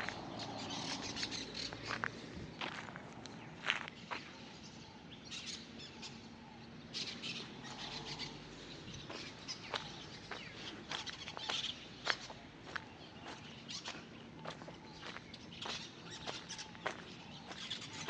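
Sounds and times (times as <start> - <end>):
birds chirping: 0.0 - 18.0
steady outdoor hiss: 0.0 - 18.0.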